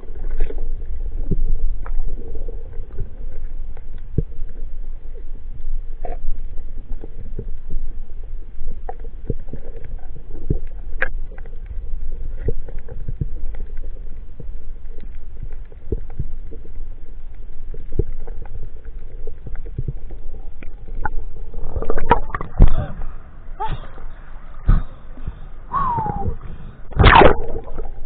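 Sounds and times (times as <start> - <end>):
muffled underwater rumble: 0.0 - 28.0.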